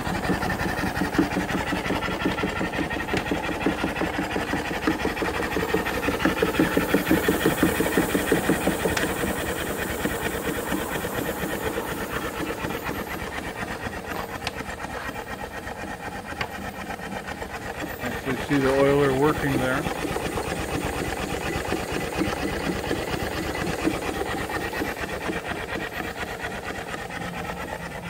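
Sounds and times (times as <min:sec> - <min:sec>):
steam engine chuffing: 0:00.0 - 0:28.0.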